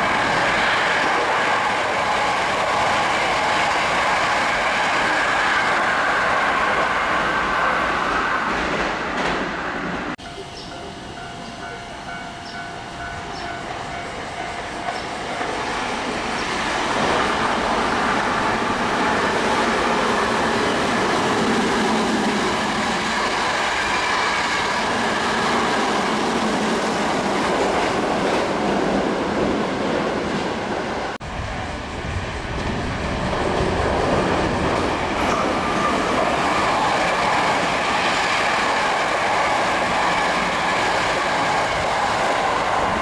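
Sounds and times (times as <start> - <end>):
train wheels rushing on rail: 0.0 - 43.0.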